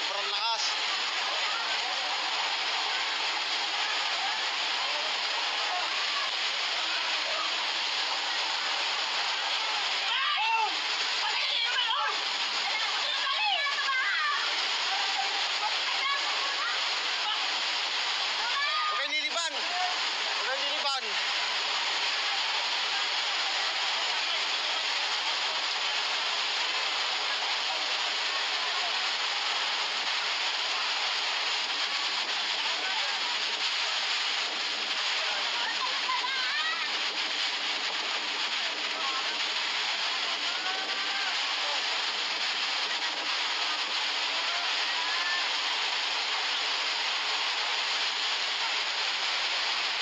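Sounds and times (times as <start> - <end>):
floodwater rushing: 0.0 - 50.0
heavy rain: 0.0 - 50.0.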